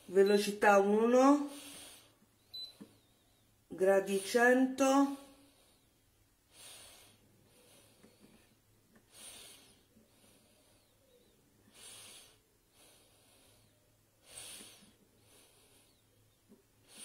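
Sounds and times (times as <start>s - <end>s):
faint hissy breathing: 1.4s - 4.4s, 5.1s - 17.0s.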